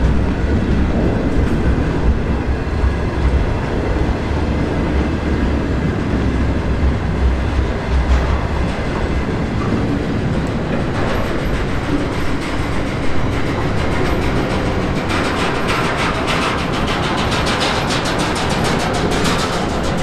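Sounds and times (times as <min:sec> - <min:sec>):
clacks over rail joints: 0:00.0 - 0:20.0
steel wheels rumbling on rail: 0:00.0 - 0:20.0.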